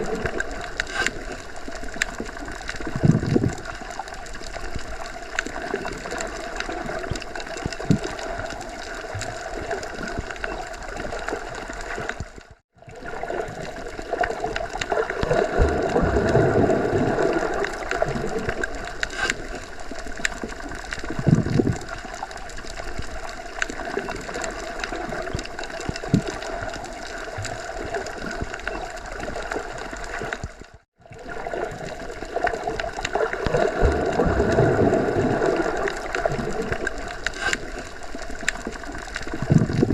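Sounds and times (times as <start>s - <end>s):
underwater rush and gurgle: 0.0s - 39.9s.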